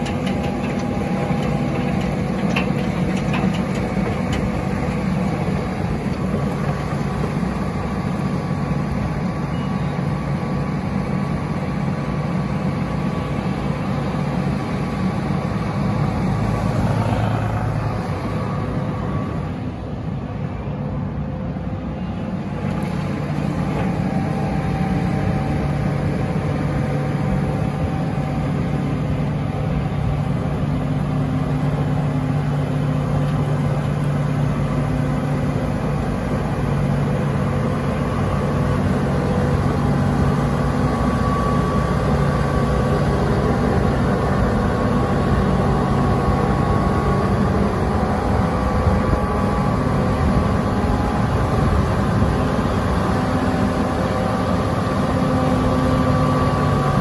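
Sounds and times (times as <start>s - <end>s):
heavy diesel engines droning: 0.0s - 57.0s.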